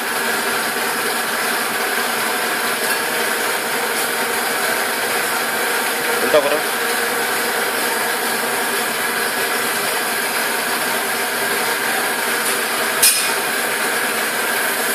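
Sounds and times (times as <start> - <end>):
workshop machinery running: 0.0 - 14.9.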